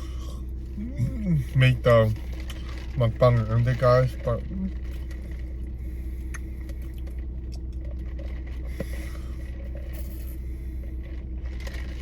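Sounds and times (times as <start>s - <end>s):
car interior hum: 0.0s - 12.0s.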